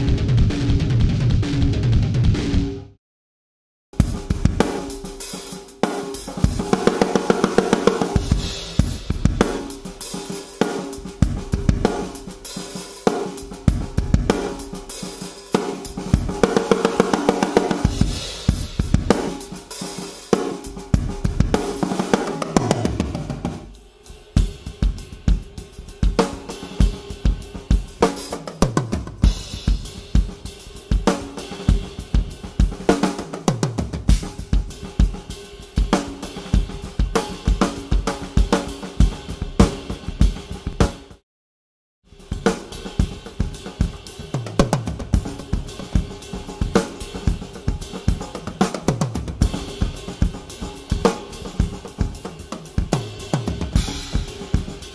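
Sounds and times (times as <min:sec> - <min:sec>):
snare drum: 0:04.0 - 0:41.2, 0:42.3 - 0:54.9.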